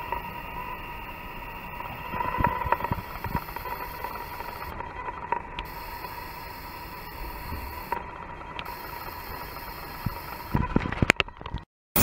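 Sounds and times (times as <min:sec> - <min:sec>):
steady mid-pitched tone: 0:00.0 - 0:10.6
crackles and clicks: 0:00.0 - 0:12.0.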